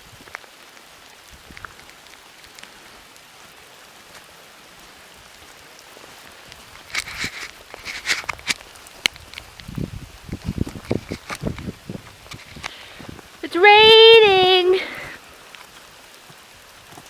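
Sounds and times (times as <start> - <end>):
steady rain in forest: 0.0 - 17.0.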